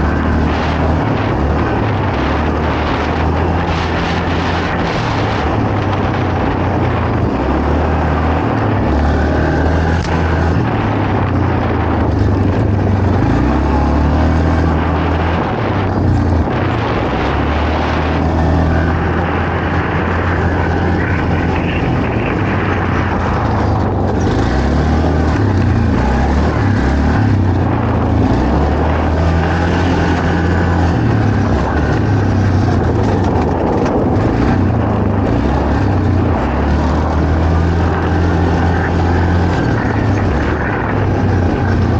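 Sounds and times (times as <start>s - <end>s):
quad bike engine running: 0.0s - 41.9s
steady rushing noise: 0.0s - 41.9s.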